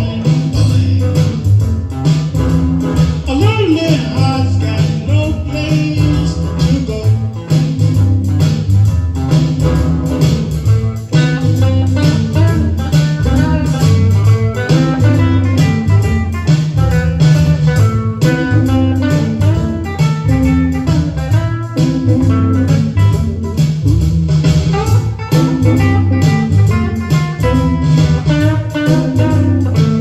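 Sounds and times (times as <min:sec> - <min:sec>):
blues guitar and walking bass: 0:00.0 - 0:30.0.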